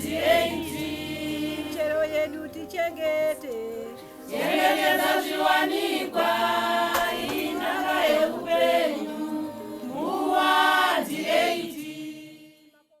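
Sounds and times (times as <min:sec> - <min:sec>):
group of voices singing: 0:00.0 - 0:12.7.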